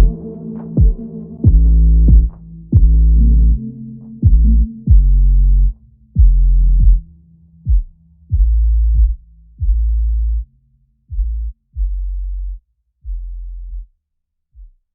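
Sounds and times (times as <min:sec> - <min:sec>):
deep electronic bass notes: 0:00.0 - 0:13.9.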